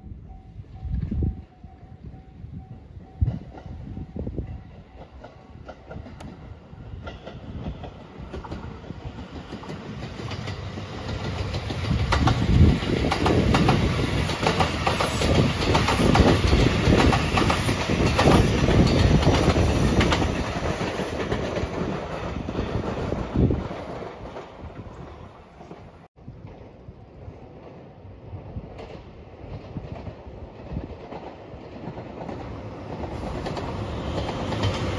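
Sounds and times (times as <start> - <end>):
train passing: 0.0 - 34.9
wheels clicking over rail joints: 3.2 - 26.9, 28.6 - 34.9.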